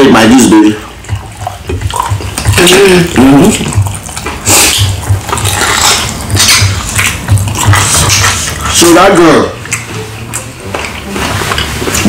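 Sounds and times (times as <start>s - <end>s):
wet chewing and lip-smacking: 0.7s - 12.0s.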